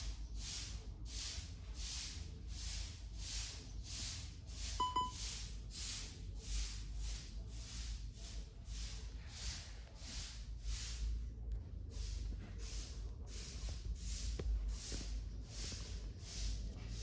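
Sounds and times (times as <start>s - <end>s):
broom sweeping the ground: 0.0s - 17.0s.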